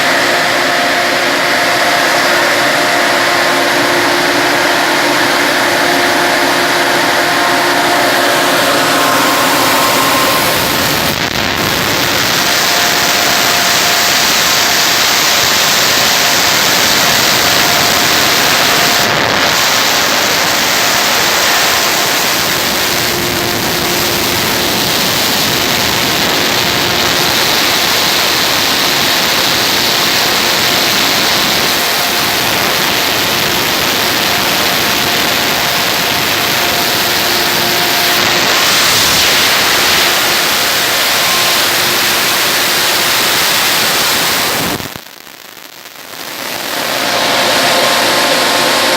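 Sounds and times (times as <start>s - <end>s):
gas burner dryer rushing: 0.0s - 44.8s, 46.5s - 48.9s
faint hum: 0.0s - 48.9s.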